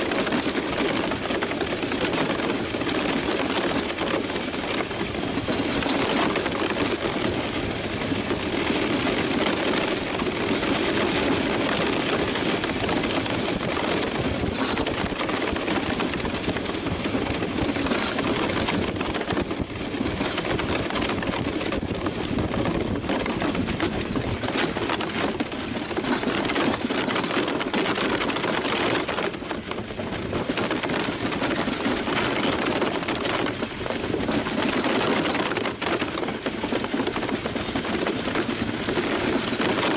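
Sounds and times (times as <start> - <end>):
runners rushing over ice: 0.0 - 39.9
wind on microphone: 0.0 - 39.9.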